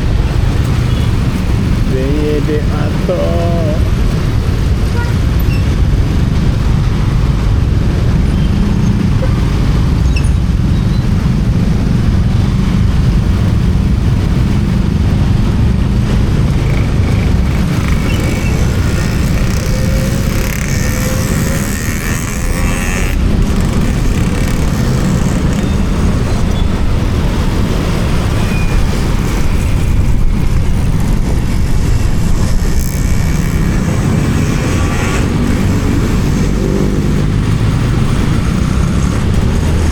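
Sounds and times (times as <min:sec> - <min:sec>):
motorcycle road and engine noise: 0:00.0 - 0:39.9
wind rushing over microphone: 0:00.0 - 0:39.9.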